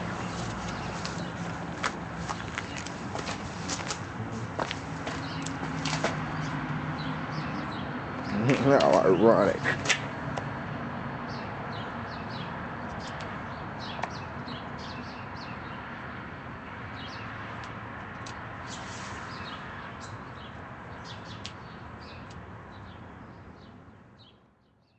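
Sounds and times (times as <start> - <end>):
small birds chirping: 0.0 - 10.2, 11.2 - 24.9.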